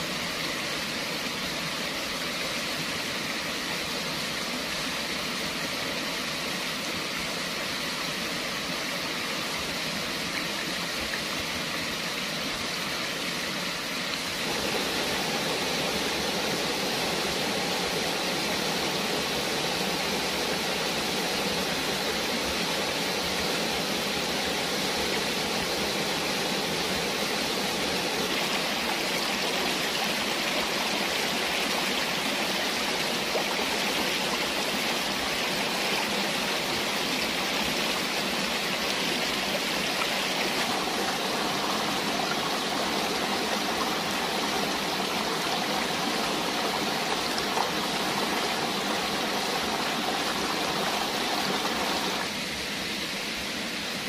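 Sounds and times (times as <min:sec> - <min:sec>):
water rushing over stones: 0:00.0 - 0:54.0.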